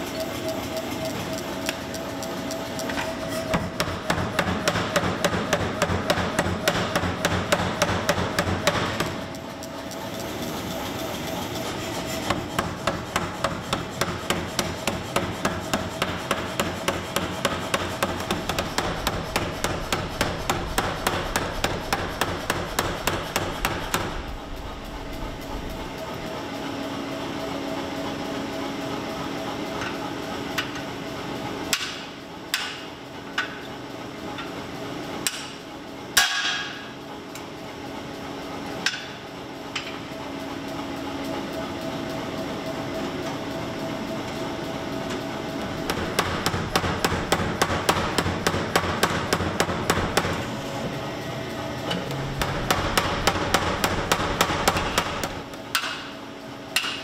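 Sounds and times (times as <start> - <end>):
machine hum: 0.0 - 56.8.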